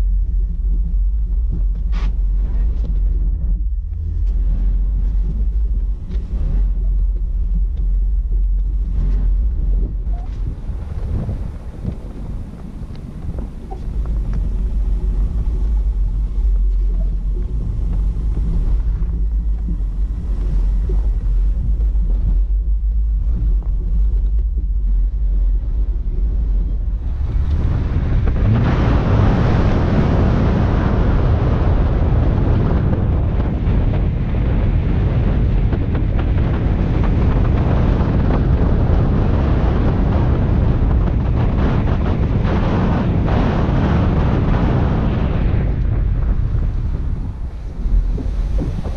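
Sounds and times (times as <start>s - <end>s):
car driving low rumble: 0.0s - 48.9s
wind noise on microphone: 0.0s - 48.9s.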